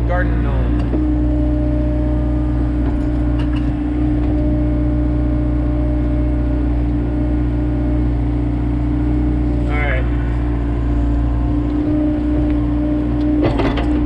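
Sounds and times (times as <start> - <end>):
excavator engine whine: 0.0 - 14.0.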